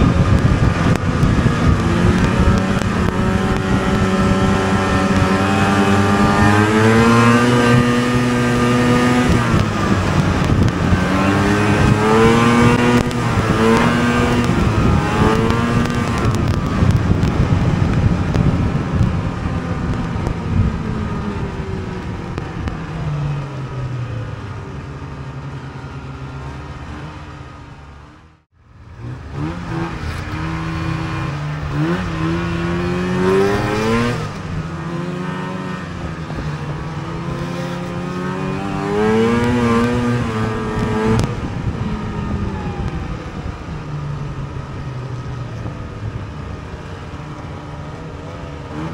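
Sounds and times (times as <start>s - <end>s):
snowmobile engine revving: 0.0s - 23.5s, 28.9s - 48.9s.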